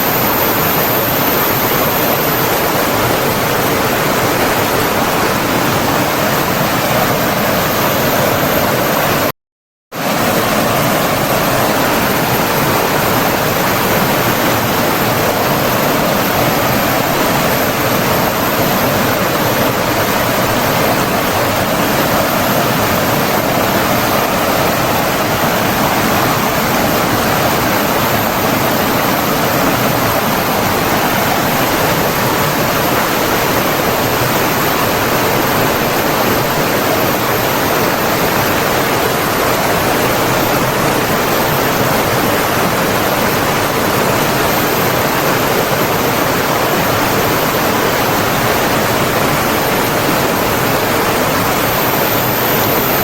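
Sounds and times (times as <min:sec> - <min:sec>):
stream water rushing: 0:00.0 - 0:09.3, 0:10.0 - 0:53.0.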